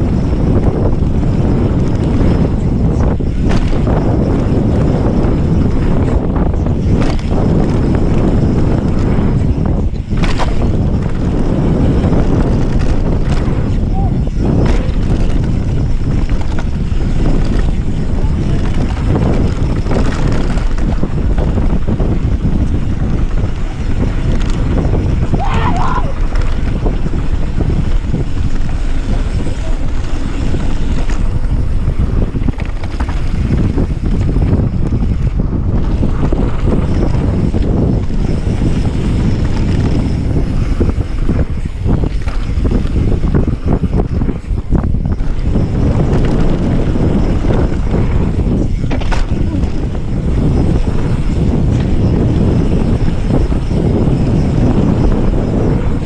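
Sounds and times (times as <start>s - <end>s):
bike rattling and knocking: 0.0s - 56.0s
bike tyres on gravel: 0.0s - 56.0s
wind buffeting microphone: 0.0s - 56.0s.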